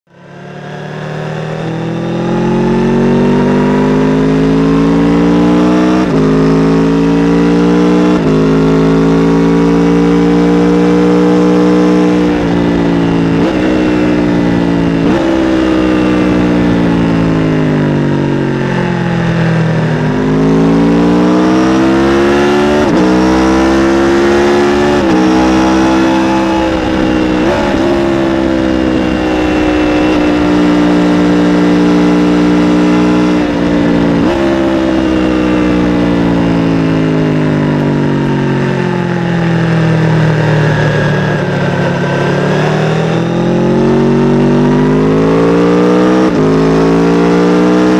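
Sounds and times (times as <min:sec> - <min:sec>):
motorcycle engine accelerating: 0:00.1 - 0:47.9.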